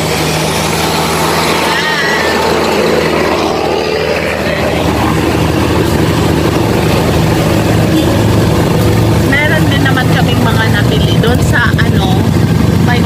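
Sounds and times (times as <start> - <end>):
road and wind noise: 0.0 - 13.0
vehicle engine droning: 0.0 - 13.0.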